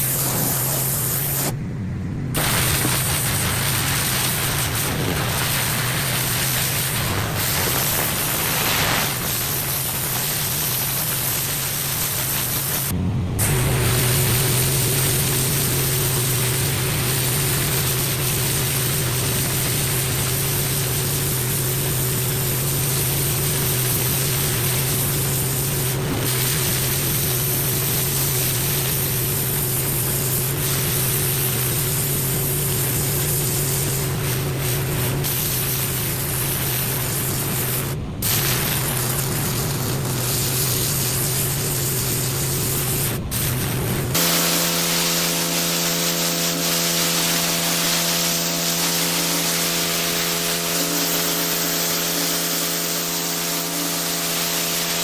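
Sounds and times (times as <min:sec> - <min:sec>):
pressure washer spray hissing: 0:00.0 - 0:01.6, 0:02.4 - 0:55.0
washer engine and pump humming: 0:00.0 - 0:55.0.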